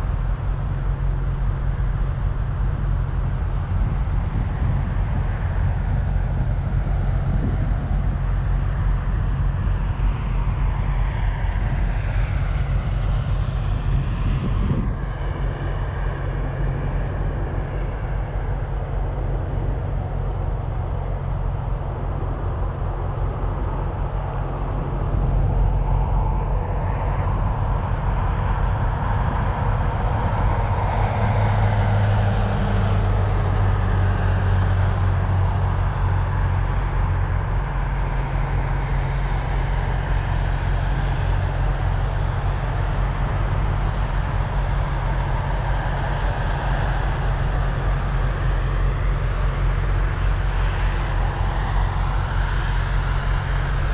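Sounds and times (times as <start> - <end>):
deeper engine note: 0.0 - 53.9
road traffic noise: 0.0 - 53.9
vehicle engine hum: 0.0 - 53.9.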